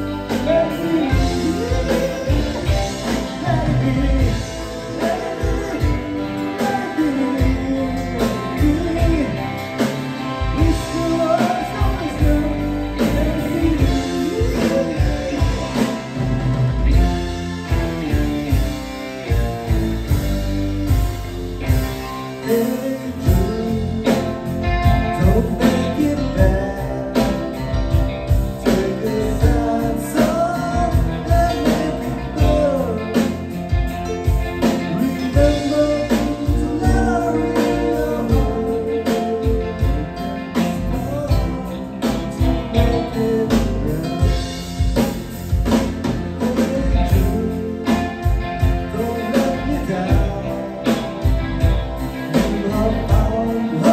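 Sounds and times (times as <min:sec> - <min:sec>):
drum kit: 0:00.0 - 0:53.9
electric bass: 0:00.0 - 0:53.9
electric guitar: 0:00.0 - 0:53.9
person singing: 0:00.0 - 0:53.9.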